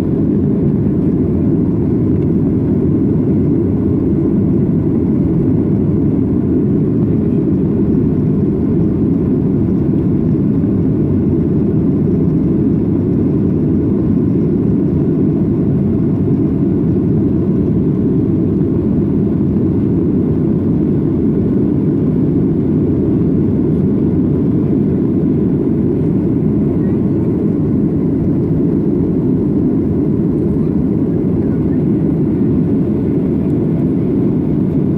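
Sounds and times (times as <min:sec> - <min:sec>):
jet engine cabin rumble: 0:00.0 - 0:34.9.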